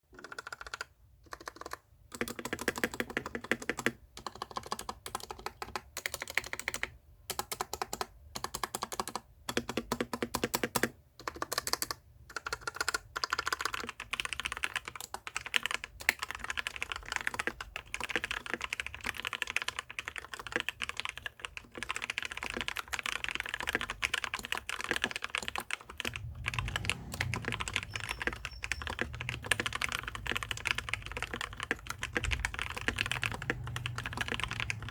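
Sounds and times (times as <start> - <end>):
typing on mechanical keyboard: 0.1 - 34.9.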